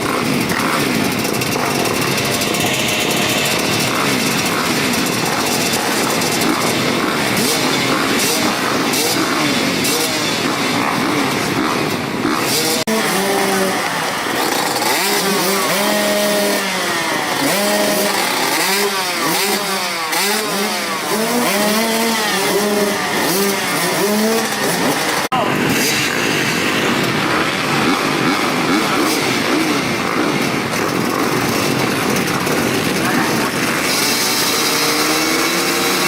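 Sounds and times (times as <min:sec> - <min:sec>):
dirt bike engines revving: 0:00.0 - 0:36.0.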